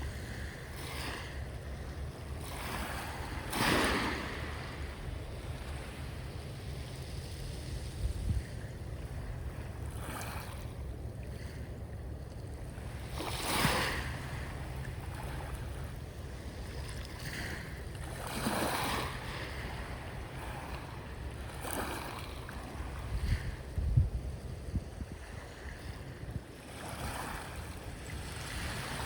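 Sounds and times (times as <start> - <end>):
sea waves washing in: 0.0 - 11.7, 12.6 - 29.0
wind rumble on microphone: 0.0 - 29.0.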